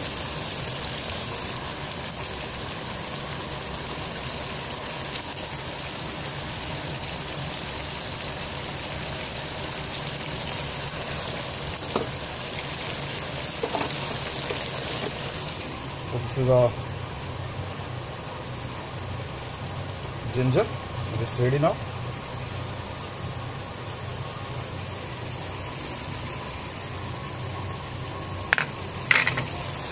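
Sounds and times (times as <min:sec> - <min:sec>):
food sizzling in hot oil: 0:00.0 - 0:29.9.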